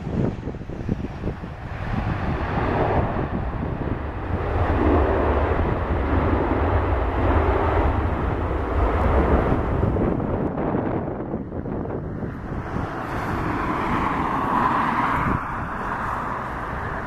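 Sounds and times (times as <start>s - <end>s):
jet engines roaring: 0.0s - 17.0s
wind rumble on microphone: 0.0s - 17.0s.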